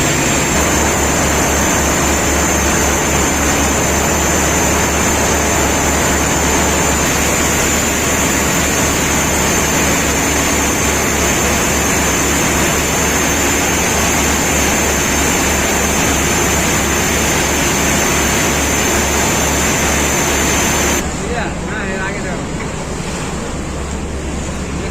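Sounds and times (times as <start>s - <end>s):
boat engine drone with whine: 0.0s - 24.9s.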